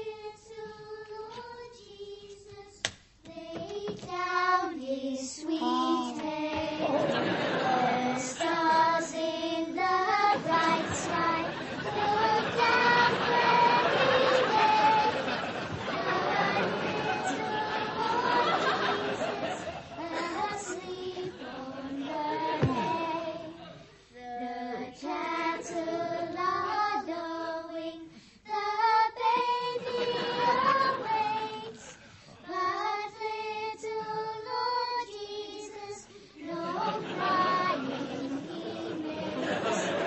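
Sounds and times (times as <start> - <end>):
choir singing a carol: 0.0 - 2.7, 3.3 - 40.0.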